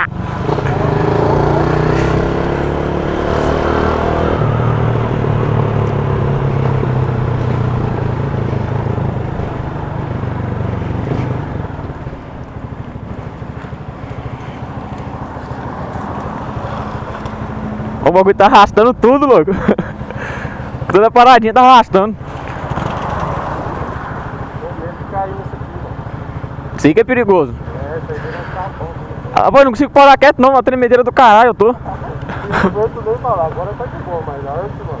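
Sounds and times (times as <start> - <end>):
motorcycle engine running: 0.0 - 21.2, 22.0 - 29.5.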